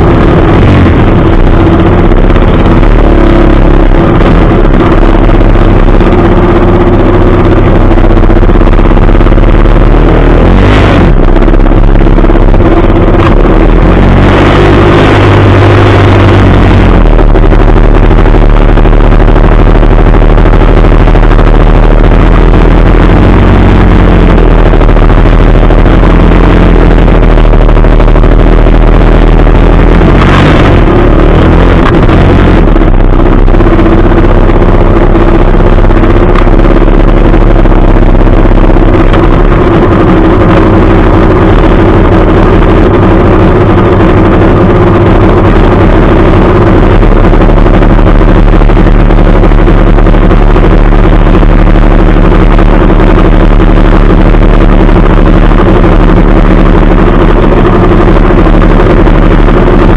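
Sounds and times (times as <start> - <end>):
sharp burst: 0.0 - 59.9.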